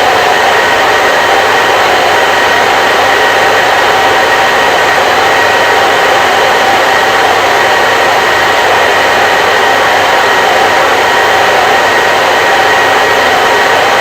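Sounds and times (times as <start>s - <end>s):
hair dryer blowing: 0.0s - 14.0s.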